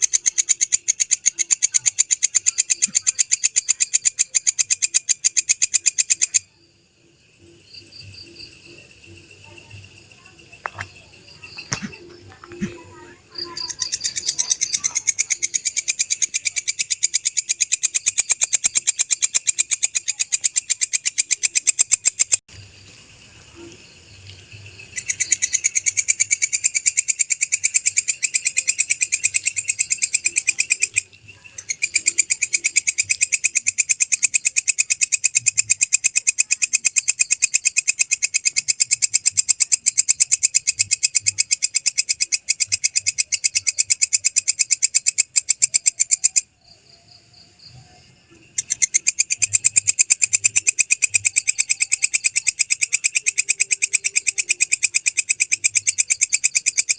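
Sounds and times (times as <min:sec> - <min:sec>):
insect chirping: 0:00.0 - 0:56.9.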